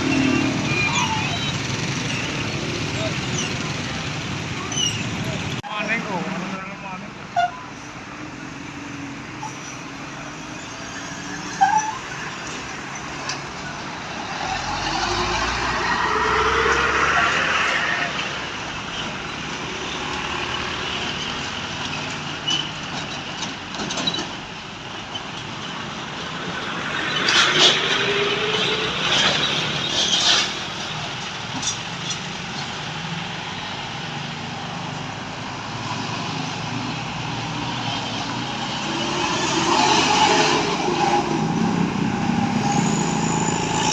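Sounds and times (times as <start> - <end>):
heavy road traffic passing: 0.0 - 43.9.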